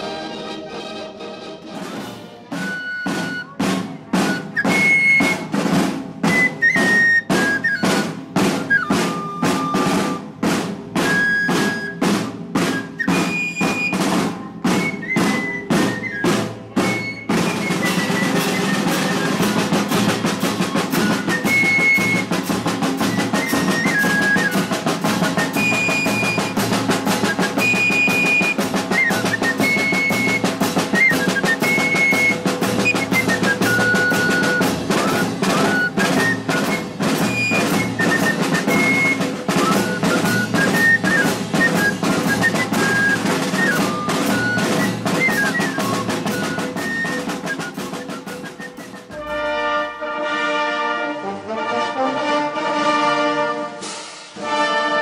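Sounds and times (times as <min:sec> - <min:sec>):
high wind instrument held notes: 0:00.0 - 0:55.0
drum roll: 0:01.6 - 0:50.3, 0:53.8 - 0:54.7
snare and bass drums marching beat: 0:01.8 - 0:50.0.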